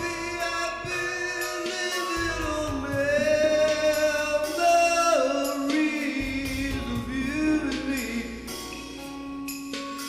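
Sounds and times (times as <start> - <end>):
man singing a ballad: 0.0 - 9.4
instrumental backing track: 0.0 - 10.0.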